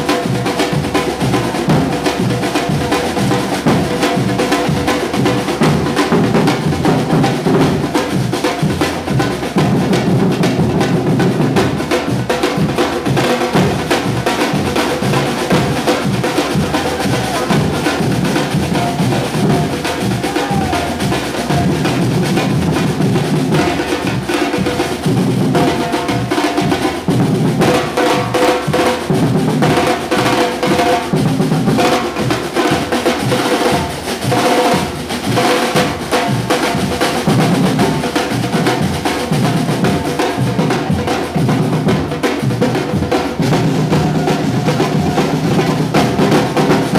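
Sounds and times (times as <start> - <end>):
percussion ensemble drumming: 0.0 - 46.9.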